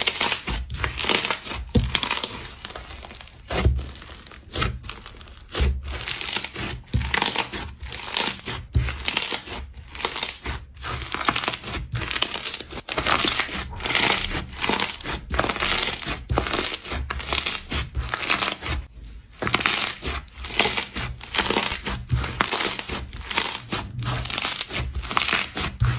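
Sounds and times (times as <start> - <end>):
slime squishing crackly: 0.0 - 25.9.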